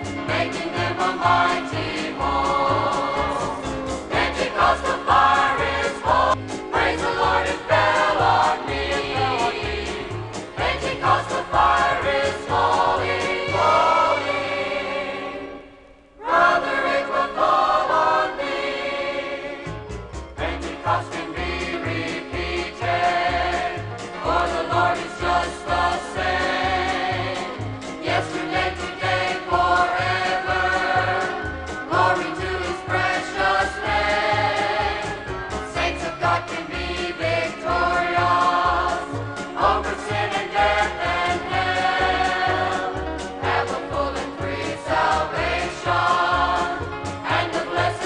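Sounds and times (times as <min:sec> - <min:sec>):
choir singing a gospel hymn: 0:00.0 - 0:48.0
instrumental accompaniment: 0:00.0 - 0:48.0.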